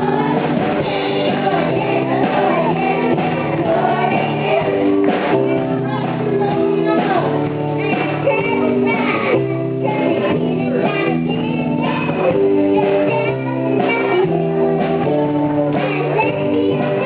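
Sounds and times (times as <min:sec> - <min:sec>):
children singing: 0:00.0 - 0:17.0
drums: 0:00.0 - 0:17.0
electric guitar: 0:00.0 - 0:17.0
keyboard: 0:00.0 - 0:17.0.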